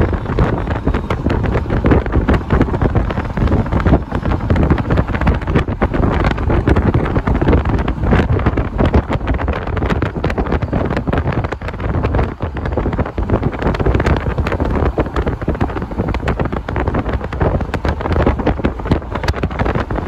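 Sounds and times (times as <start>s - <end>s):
low road noise rumble: 0.0s - 20.0s
wind buffeting microphone: 0.0s - 20.0s.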